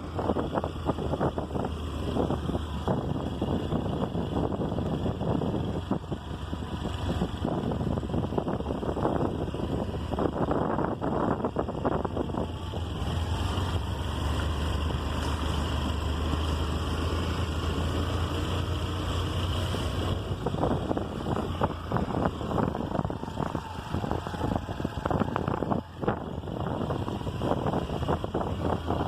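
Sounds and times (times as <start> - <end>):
motorbike engine drone: 0.0 - 29.0
wind buffeting microphone: 0.0 - 29.0.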